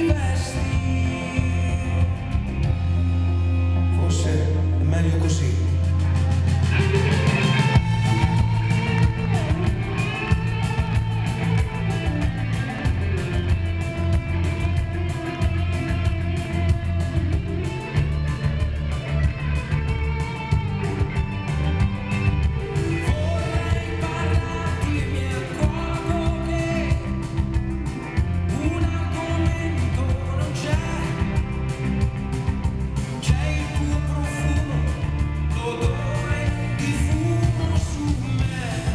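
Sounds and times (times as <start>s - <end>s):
drums: 0.0s - 38.9s
electric guitar: 0.0s - 38.9s
heavy low end: 0.0s - 38.9s.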